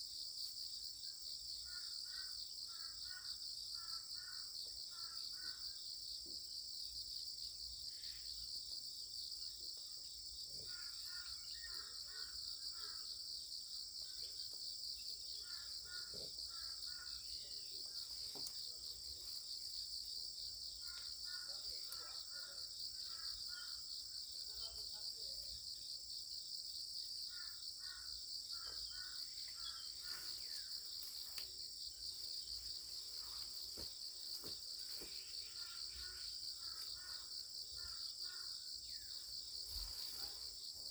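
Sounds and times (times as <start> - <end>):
insect chorus: 0.0 - 40.9.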